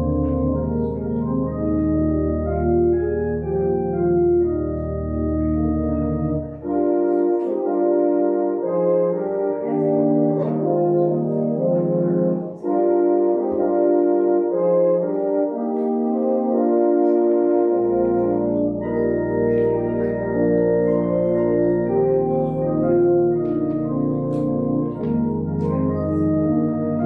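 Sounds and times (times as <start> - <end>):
church organ chords: 0.0 - 27.0.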